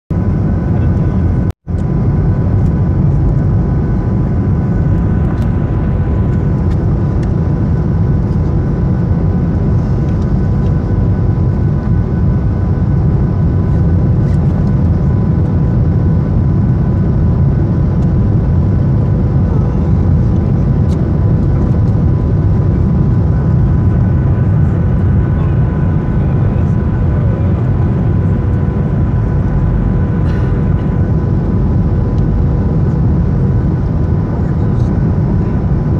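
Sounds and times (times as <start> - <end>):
jet engine and airflow roar: 0.1 - 35.9.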